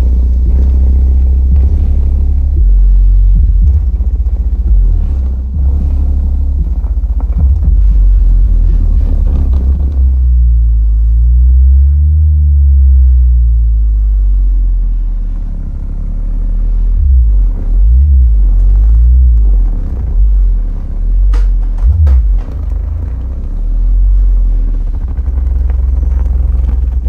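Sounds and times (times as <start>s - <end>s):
deep bass from subwoofers: 0.0s - 27.0s.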